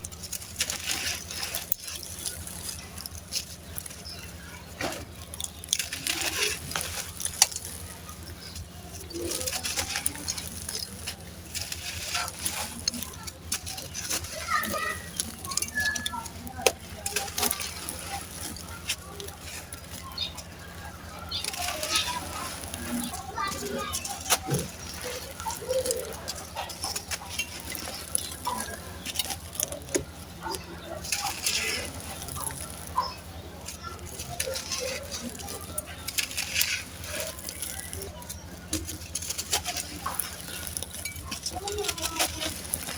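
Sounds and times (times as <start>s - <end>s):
sand-cement crumbling and crunching: 0.0s - 42.9s
steady low hum: 0.0s - 42.9s.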